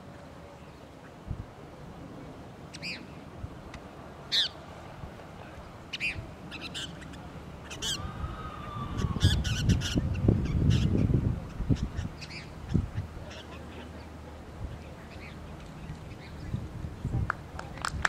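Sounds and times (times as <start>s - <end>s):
low rumbling noise: 0.0s - 18.0s.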